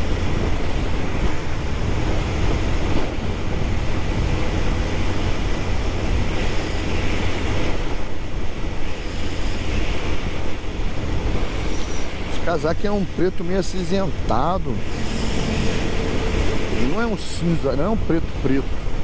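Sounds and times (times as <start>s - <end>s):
wind rushing on microphone: 0.0s - 19.0s.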